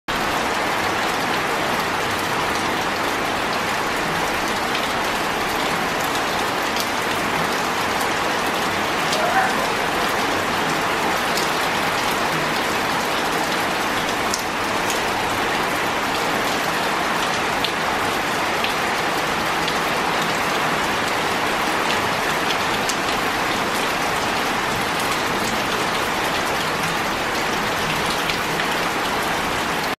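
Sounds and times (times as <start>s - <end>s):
heavy rain on stone paving: 0.1s - 30.0s
rain splashing into puddles: 0.1s - 30.0s.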